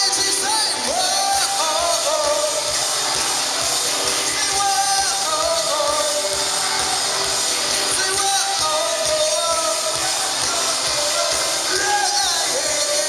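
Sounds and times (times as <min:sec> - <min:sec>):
live rock band playing: 0:00.0 - 0:13.0
person singing: 0:00.0 - 0:13.0.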